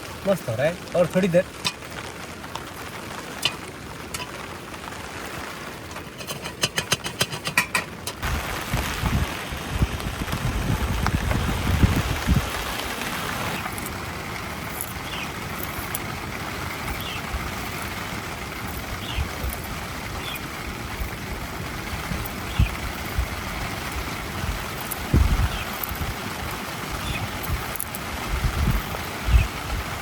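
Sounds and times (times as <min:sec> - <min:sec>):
heavy rain on a tent: 0:00.0 - 0:30.0.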